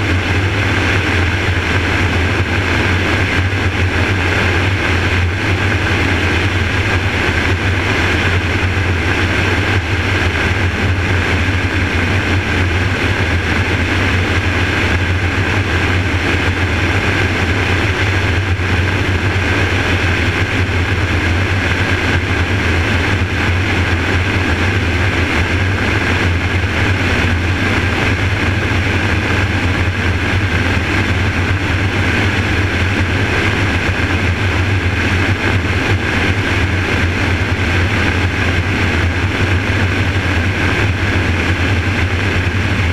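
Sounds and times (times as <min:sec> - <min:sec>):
helicopter rotor and engine drone: 0:00.0 - 0:42.9
low hum: 0:00.0 - 0:42.9.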